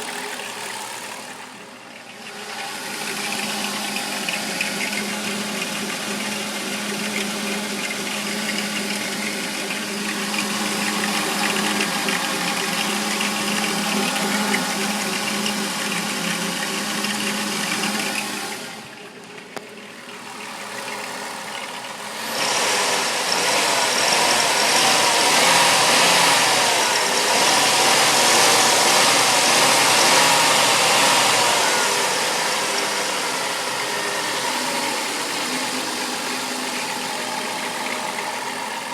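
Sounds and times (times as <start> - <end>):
car engine running: 0.0 - 38.9
engine rattling: 0.0 - 38.9.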